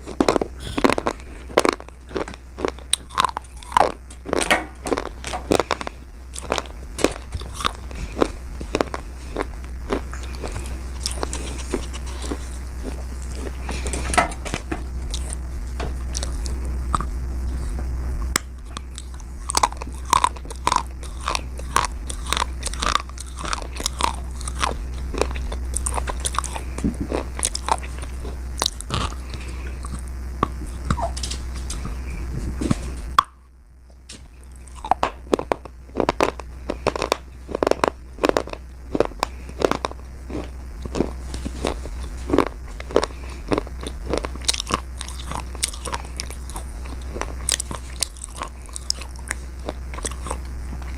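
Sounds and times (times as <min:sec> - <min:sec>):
slate crunching while chewed: 0:00.0 - 0:50.9
steady low hum: 0:00.0 - 0:50.9.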